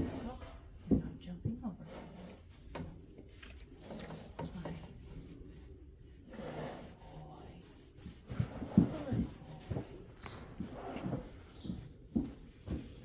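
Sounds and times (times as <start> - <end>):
pole rubbing on horse coat: 1.8 - 13.0.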